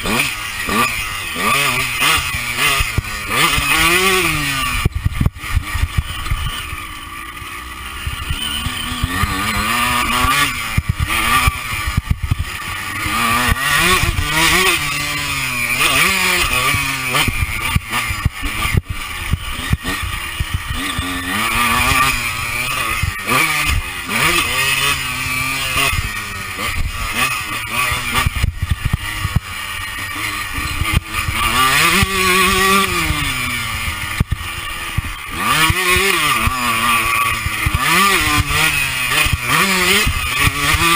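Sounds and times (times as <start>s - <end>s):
motocross engine revving: 0.0s - 40.9s.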